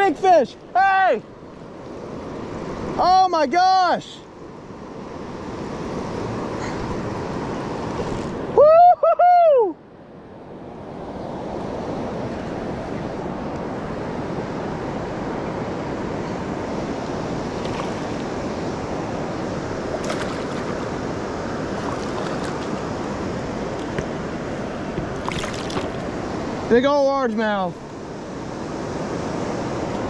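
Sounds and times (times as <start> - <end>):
river water rushing: 0.0 - 8.7, 9.6 - 30.0.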